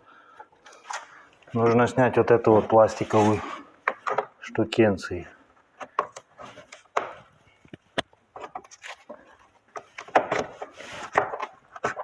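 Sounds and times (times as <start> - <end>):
plastic scraping and rubbing: 0.7 - 4.3, 5.8 - 12.0.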